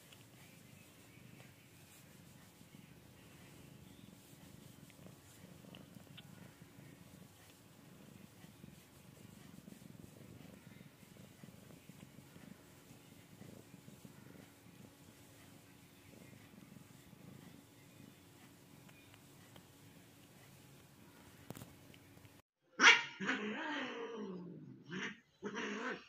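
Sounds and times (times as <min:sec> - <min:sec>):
cat purring: 0:00.0 - 0:22.4.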